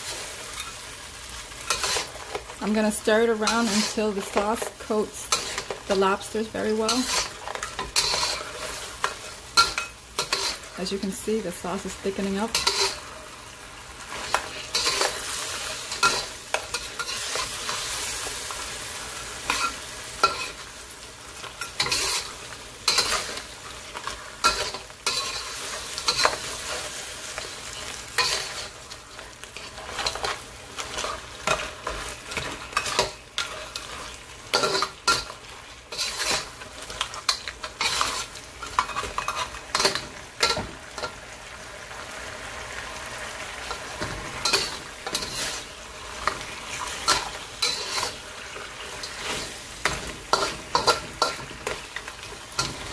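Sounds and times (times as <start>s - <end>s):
food sizzling in a wok: 0.0s - 52.9s
metal spatula scraping a wok: 1.6s - 11.0s, 11.8s - 13.2s, 14.1s - 18.7s, 19.4s - 41.2s, 43.7s - 52.9s.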